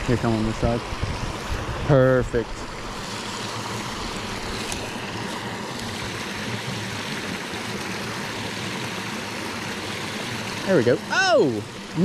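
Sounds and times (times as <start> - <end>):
water splashing over cascade: 0.0 - 12.0.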